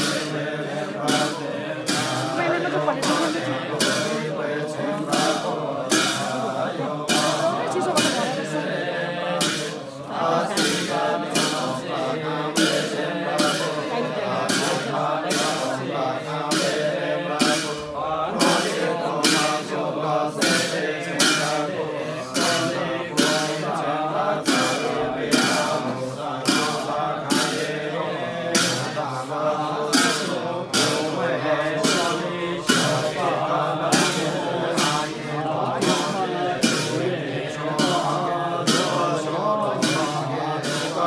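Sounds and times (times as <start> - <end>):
men chanting: 0.0 - 41.0
steady beat of sharp strikes: 0.0 - 41.0.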